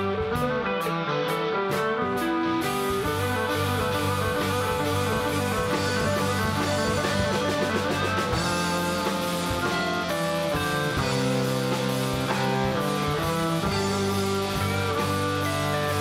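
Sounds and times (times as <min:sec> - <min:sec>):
bass guitar: 0:00.0 - 0:16.0
drums: 0:00.0 - 0:16.0
electric guitar single-note lines: 0:00.0 - 0:16.0.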